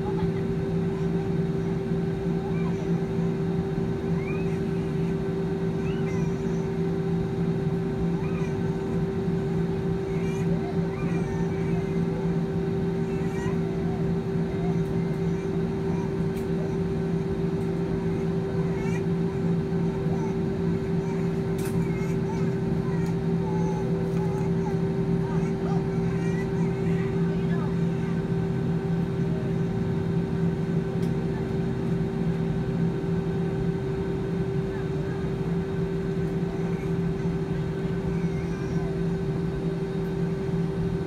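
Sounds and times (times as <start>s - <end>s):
jet engines humming in cabin: 0.0s - 41.0s.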